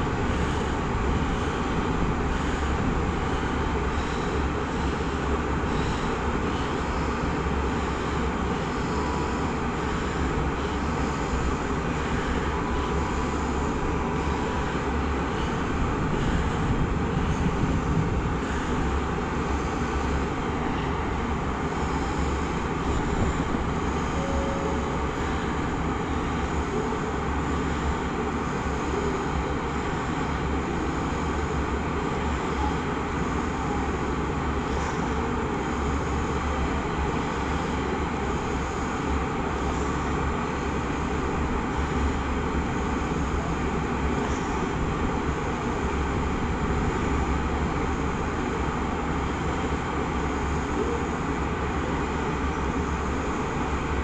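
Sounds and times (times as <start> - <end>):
deep train rumble: 0.0 - 54.0
electric locomotive drone: 0.0 - 54.0.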